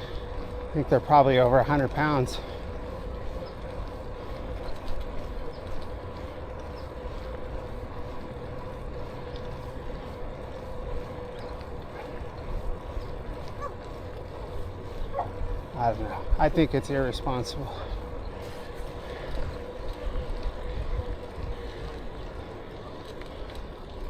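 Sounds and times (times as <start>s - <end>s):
bicycle tyre rumble: 0.0s - 24.0s
faint steady whine: 0.0s - 24.0s.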